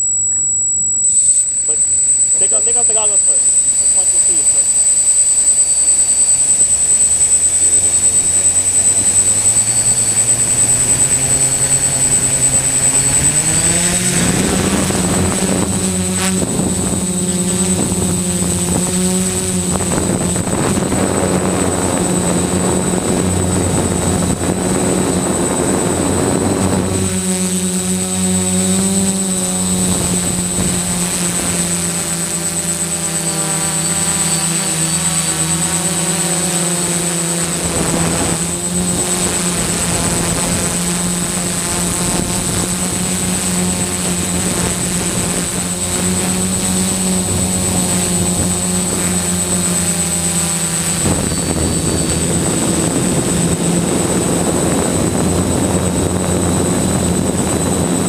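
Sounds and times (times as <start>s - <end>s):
quadcopter motors whining: 0.0s - 58.0s
thin high-pitched whine: 0.0s - 58.0s.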